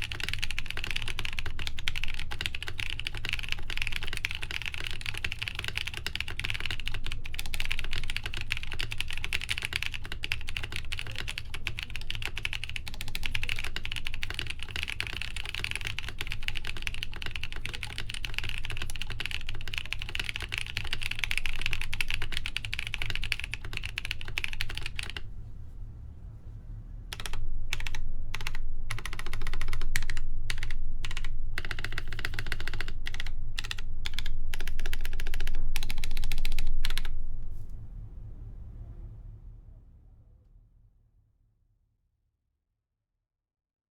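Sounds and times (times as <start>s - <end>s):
mechanical keyboard typing: 0.0s - 25.2s, 27.1s - 37.1s.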